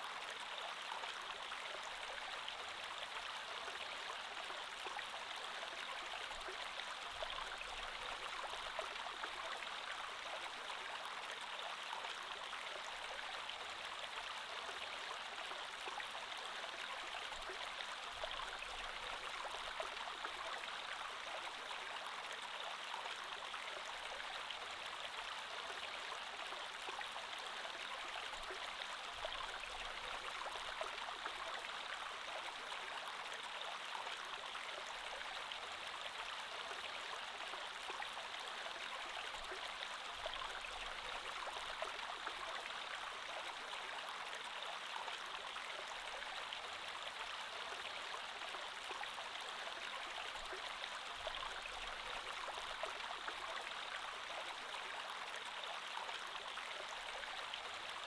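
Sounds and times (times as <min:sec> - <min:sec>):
creek water flowing over stones: 0:00.0 - 0:58.0.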